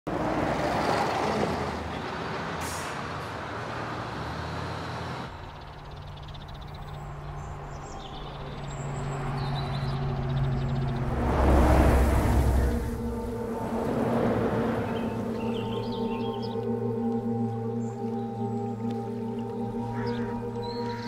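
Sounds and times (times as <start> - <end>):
bus engine hum: 0.1 - 21.0
bus passing: 0.1 - 21.0.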